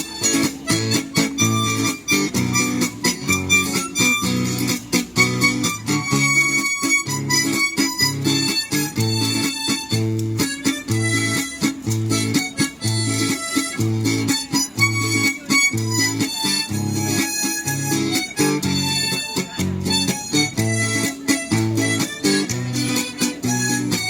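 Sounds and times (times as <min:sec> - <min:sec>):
acoustic guitar accompaniment: 0:00.0 - 0:24.0
harmonica melody: 0:00.0 - 0:24.0.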